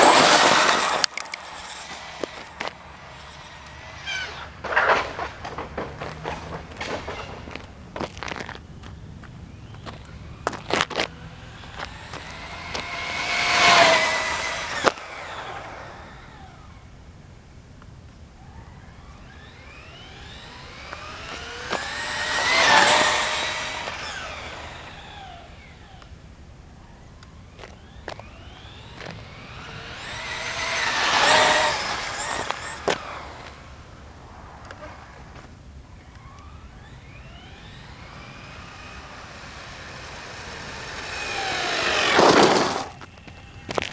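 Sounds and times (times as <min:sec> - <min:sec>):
car passing: 0:00.0 - 0:17.1, 0:18.4 - 0:26.0, 0:26.8 - 0:43.9.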